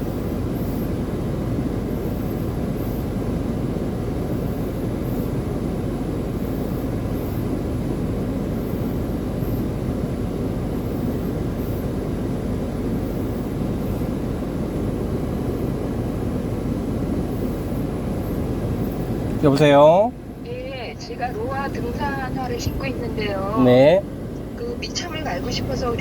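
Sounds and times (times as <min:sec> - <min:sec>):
vehicle road and engine rumble: 0:00.0 - 0:26.0.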